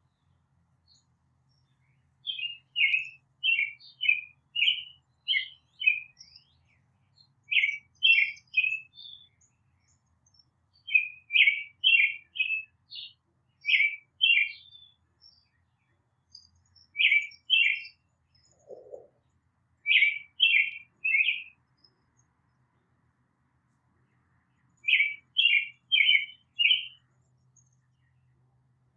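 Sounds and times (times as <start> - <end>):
small songbird chirping: 0.0 - 28.9.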